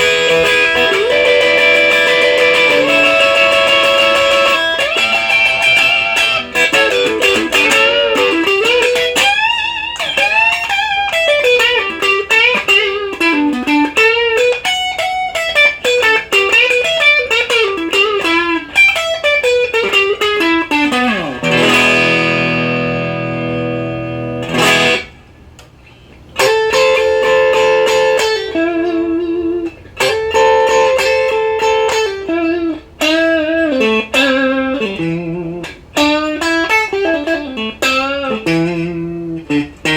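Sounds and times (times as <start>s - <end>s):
electric guitar chord stabs: 0.0s - 25.5s, 26.4s - 39.9s
overdriven electric guitar licks: 0.0s - 39.9s.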